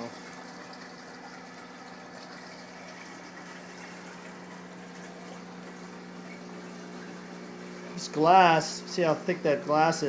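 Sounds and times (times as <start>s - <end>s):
water rushing and bubbling: 0.0s - 9.9s
pump humming: 0.0s - 10.0s.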